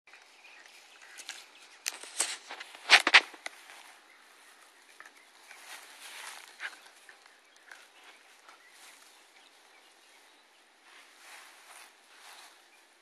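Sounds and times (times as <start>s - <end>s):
rustling in grass: 0.5s - 13.0s.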